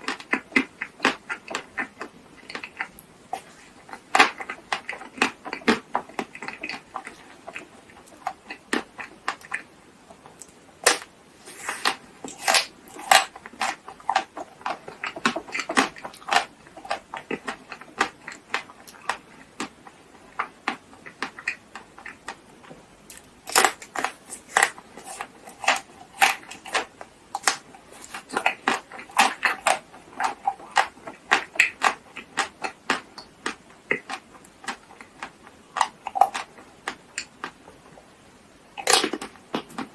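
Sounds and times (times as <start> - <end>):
person chewing crunchy snacks: 0.0 - 38.0, 38.8 - 39.9.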